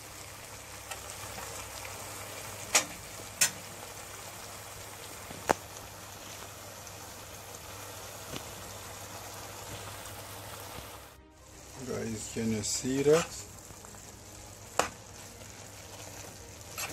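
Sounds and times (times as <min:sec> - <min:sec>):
soft sizzle in pan: 0:00.0 - 0:16.9.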